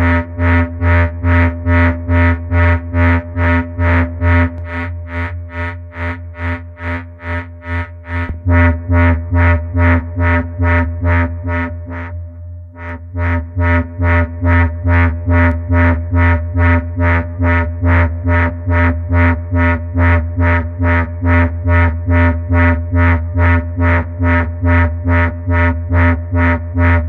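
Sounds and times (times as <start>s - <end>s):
low bass synth drone: 0.0s - 27.0s.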